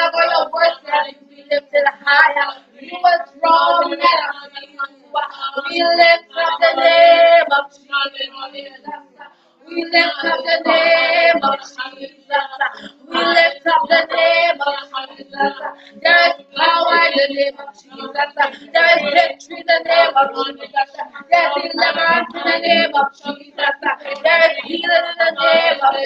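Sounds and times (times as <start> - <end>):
voices singing along: 0.0 - 26.0
woman singing: 0.0 - 26.0.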